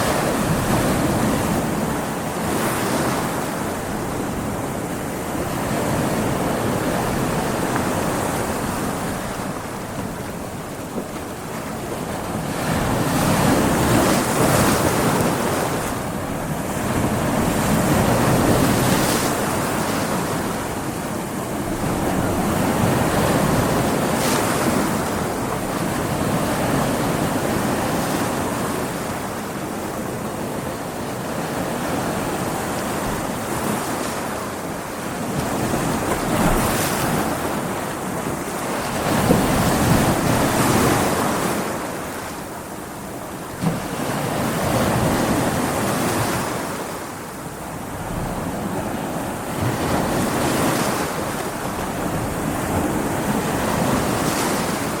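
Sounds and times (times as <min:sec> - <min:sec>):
heavy waves breaking: 0:00.0 - 0:55.0
wind: 0:00.0 - 0:55.0.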